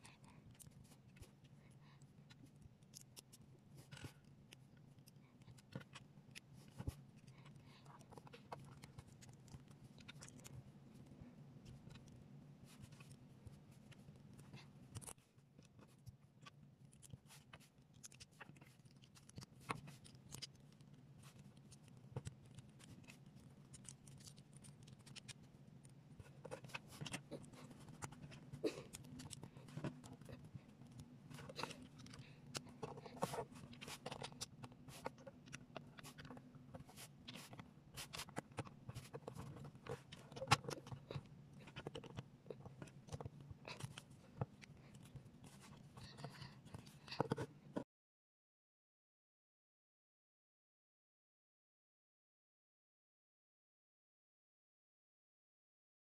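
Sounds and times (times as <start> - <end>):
faint low hum: 0.0 - 47.8.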